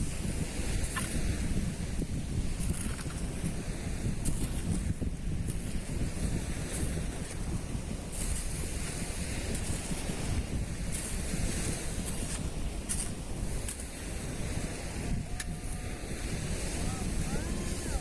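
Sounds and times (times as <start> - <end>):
sea waves washing: 0.0 - 18.0
wind buffeting microphone: 0.0 - 18.0.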